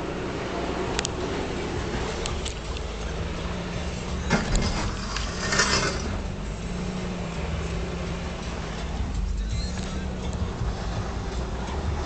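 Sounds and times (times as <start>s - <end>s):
truck engine running at low speed: 0.0s - 12.0s.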